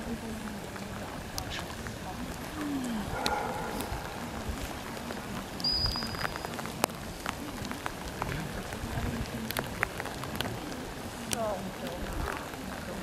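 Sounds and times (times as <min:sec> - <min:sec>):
sharp raindrop ticks: 0:00.0 - 0:13.0
steady rain: 0:00.0 - 0:13.0.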